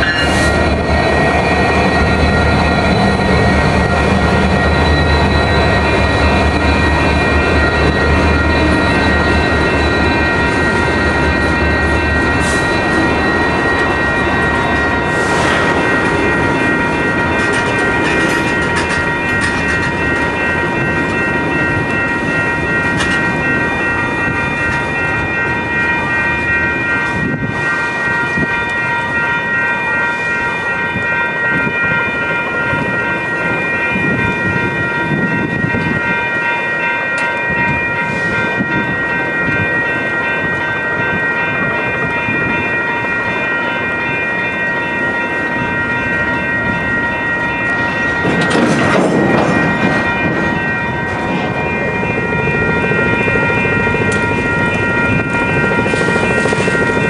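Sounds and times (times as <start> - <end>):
crossing bell ringing: 0.0 - 57.0
train wheels rumbling on rails: 0.0 - 57.0.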